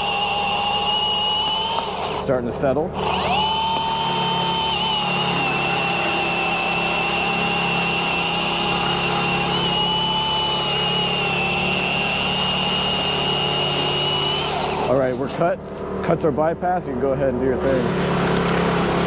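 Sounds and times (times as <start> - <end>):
electric chainsaw cutting: 0.0 - 15.4, 17.6 - 19.0.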